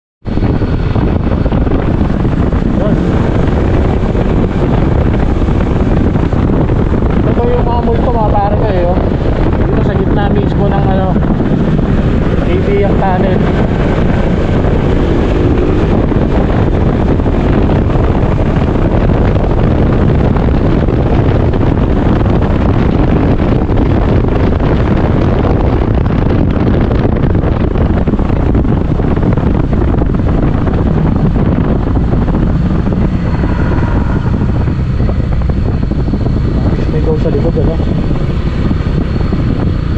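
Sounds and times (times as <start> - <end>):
vehicle noise in tunnel: 0.2 - 39.9
wind roaring in tunnel: 0.2 - 39.9.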